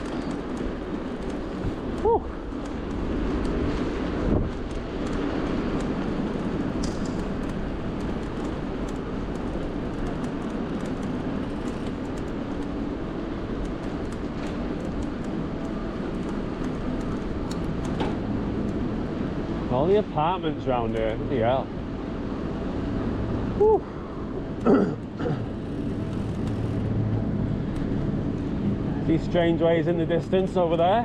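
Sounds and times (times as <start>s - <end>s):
road and wind noise: 0.0s - 31.0s
surrounding traffic: 0.0s - 31.0s.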